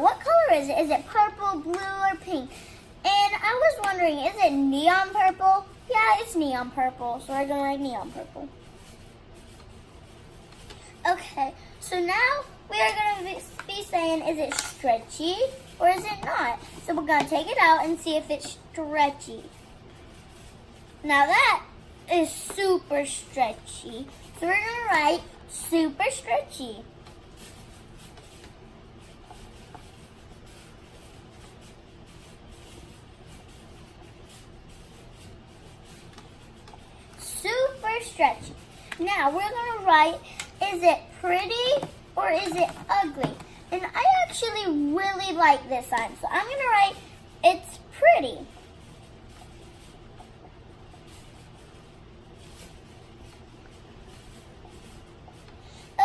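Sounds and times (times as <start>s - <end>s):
low room background: 0.0s - 56.0s
pen scratching on paper: 3.2s - 56.0s.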